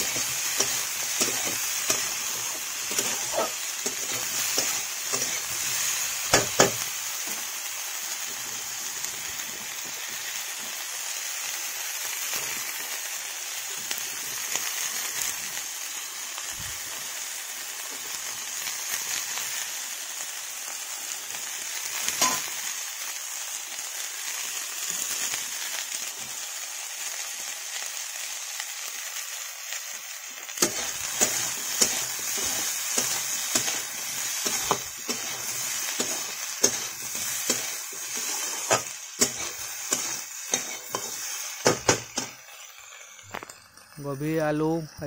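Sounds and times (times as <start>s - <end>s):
vegetables sizzling in a pan: 0.0s - 45.0s.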